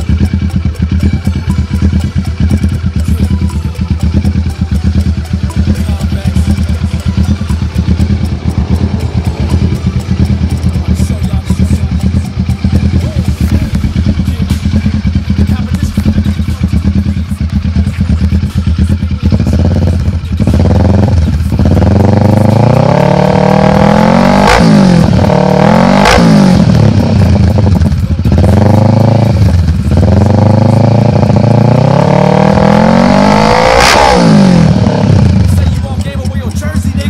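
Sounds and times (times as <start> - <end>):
motorcycle engine idling and revving: 0.0 - 37.0.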